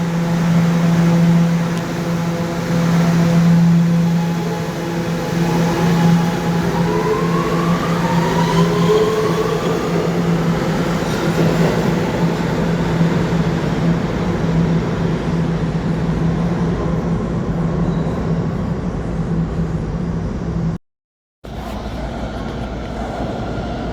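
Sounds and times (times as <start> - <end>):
subway train rumble: 0.0 - 20.8, 21.4 - 23.9.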